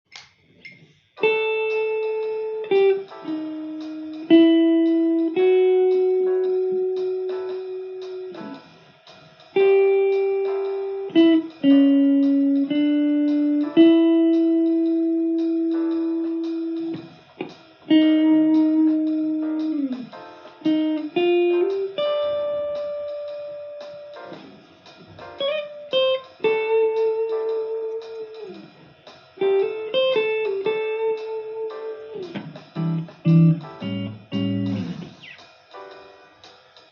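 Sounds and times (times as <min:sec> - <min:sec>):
slow guitar melody: 0:00.7 - 0:08.9, 0:09.5 - 0:36.4.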